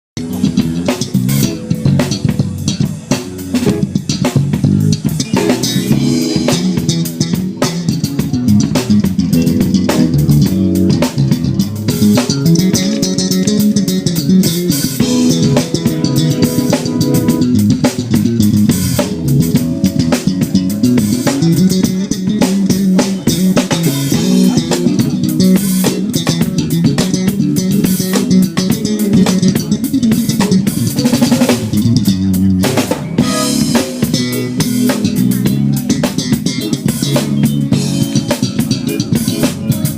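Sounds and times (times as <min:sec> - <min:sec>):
drum kit: 0:00.2 - 0:39.9
electric bass: 0:00.2 - 0:39.9
electric guitar: 0:00.2 - 0:39.9.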